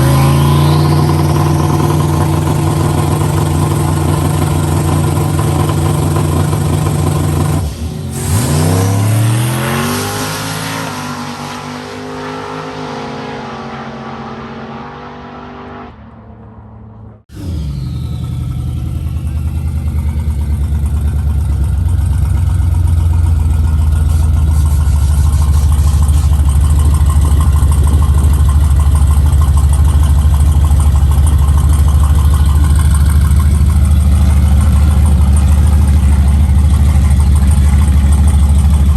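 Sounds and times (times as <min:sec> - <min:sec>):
diesel pickup accelerating: 0:00.0 - 0:38.9
truck engine droning: 0:00.0 - 0:38.9.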